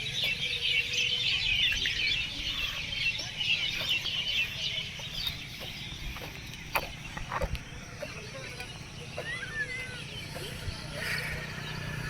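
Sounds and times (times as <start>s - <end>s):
birds chirping in chorus: 0.0s - 12.0s.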